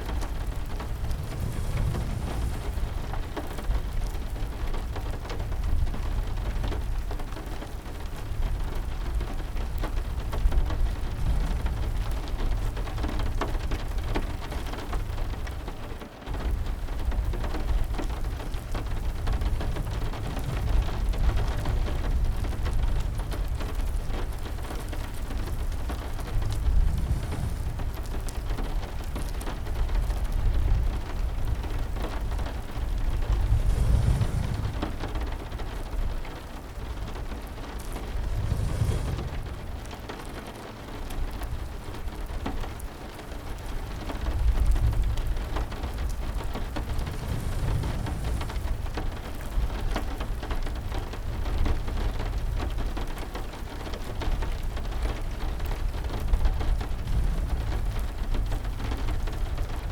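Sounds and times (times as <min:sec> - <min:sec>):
thunder rumbling: 0:00.0 - 0:07.2, 0:08.3 - 0:59.9
heavy rain: 0:00.0 - 0:59.9.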